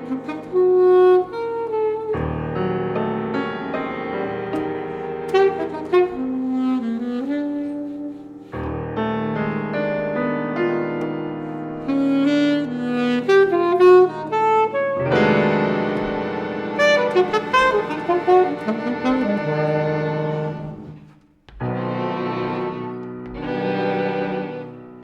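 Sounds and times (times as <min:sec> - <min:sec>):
alto saxophone melody: 0:00.0 - 0:25.0
jazz ensemble music: 0:00.0 - 0:25.0
piano: 0:00.0 - 0:25.0.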